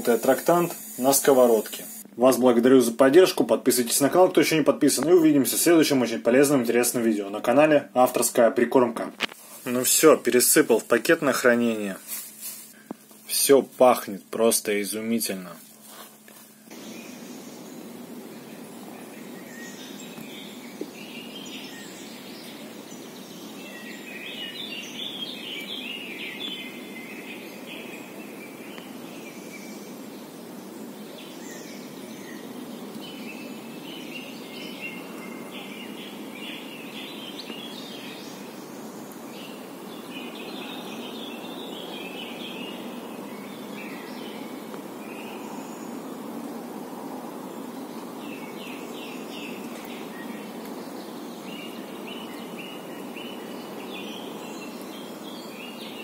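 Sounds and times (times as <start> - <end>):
low background noise: 0.0 - 56.0
songbirds chirping: 0.0 - 56.0.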